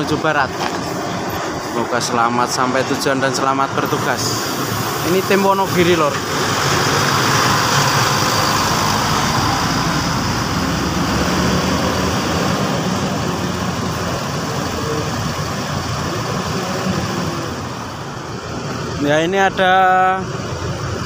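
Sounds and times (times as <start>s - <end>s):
bus engine driving off: 0.0s - 21.0s.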